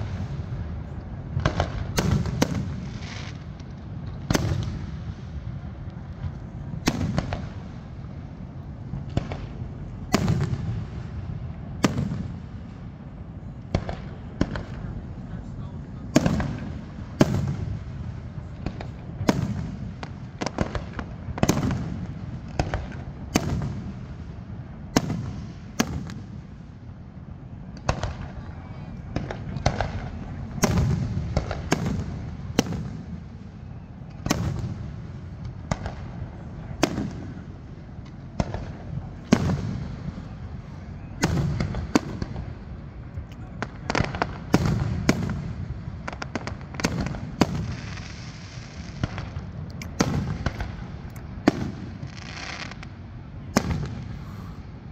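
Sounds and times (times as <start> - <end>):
fireworks bangs: 0.0 - 54.9.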